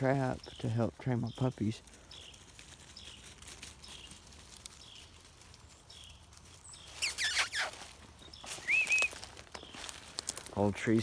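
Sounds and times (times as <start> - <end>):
footsteps crunching through dry leaves: 0.0 - 11.0.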